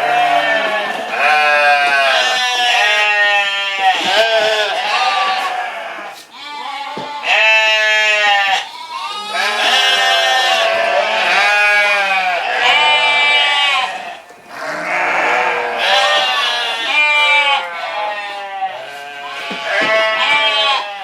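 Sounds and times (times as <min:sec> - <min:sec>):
sheep bleating: 0:00.0 - 0:21.0.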